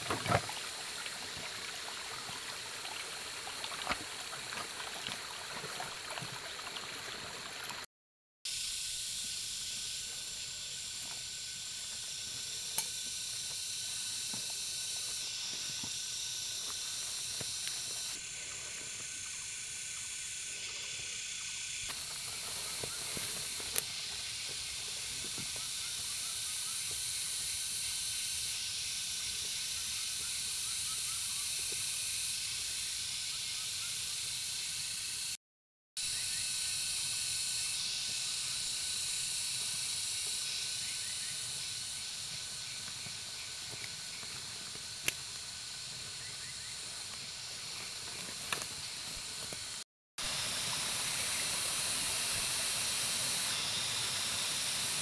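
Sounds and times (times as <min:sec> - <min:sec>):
high-pitched insect chorus: 0:00.0 - 0:07.8, 0:08.5 - 0:35.4, 0:36.0 - 0:55.0.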